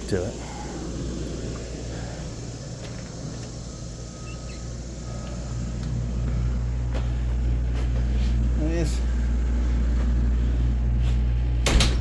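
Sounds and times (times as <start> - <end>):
diesel truck engine humming: 0.0 - 11.7.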